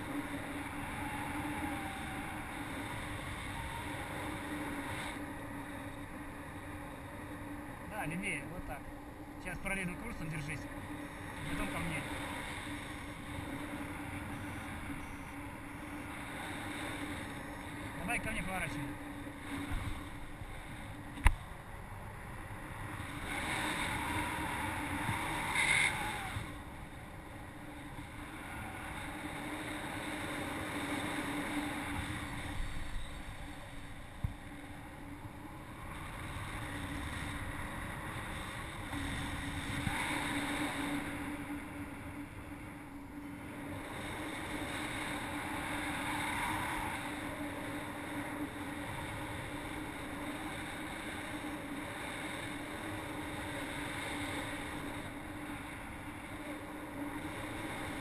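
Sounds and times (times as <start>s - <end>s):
faint steady hum: 0.0s - 58.0s
wind rushing over microphone: 0.0s - 58.0s.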